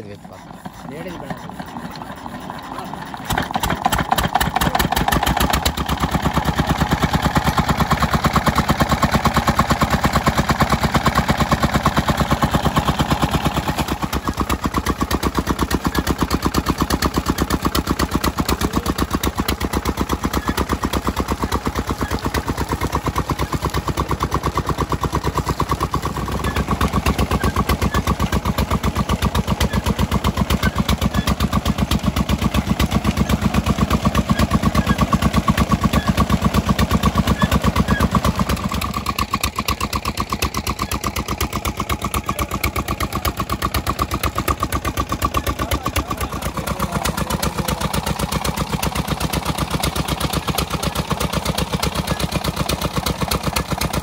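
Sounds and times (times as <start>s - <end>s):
diesel engine thudding: 0.0s - 54.0s.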